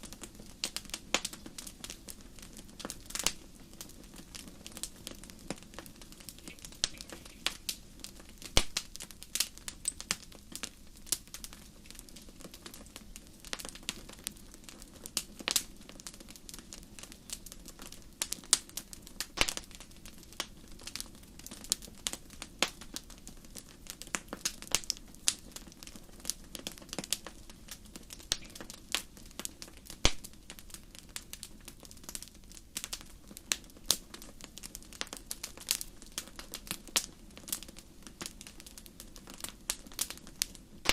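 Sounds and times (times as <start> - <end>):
fire popping: 0.0 - 40.9
low steady hiss: 0.0 - 40.9
wood fire crackling: 0.0 - 40.9.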